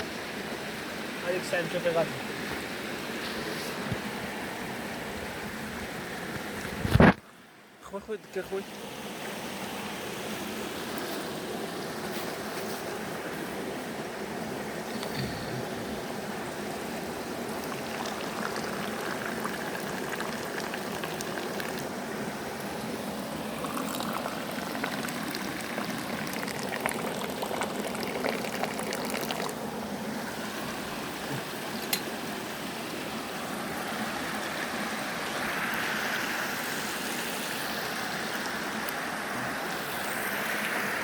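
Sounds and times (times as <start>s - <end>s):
stream water running: 0.0s - 41.0s.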